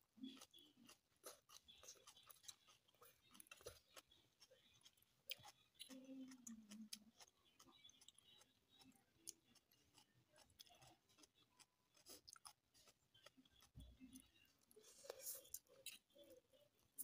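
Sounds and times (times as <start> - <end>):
faint chewing of noodles: 0.0 - 17.0.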